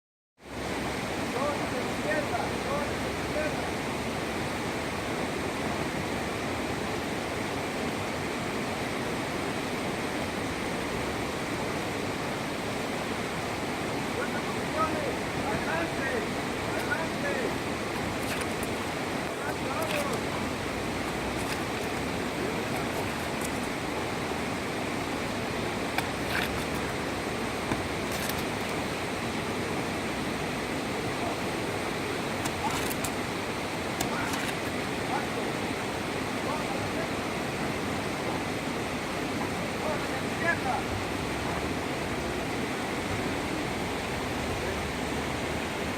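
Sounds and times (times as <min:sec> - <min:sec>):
river rapids rushing: 0:00.5 - 0:45.9.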